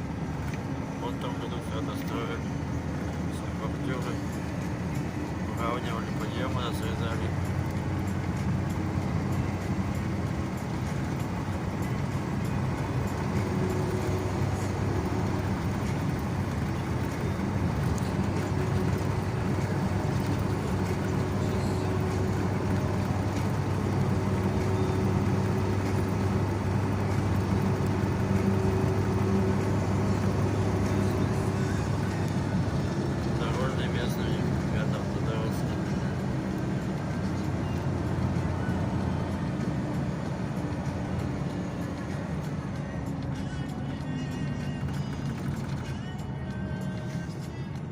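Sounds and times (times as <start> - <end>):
car engine and tyre drone: 0.0 - 47.9.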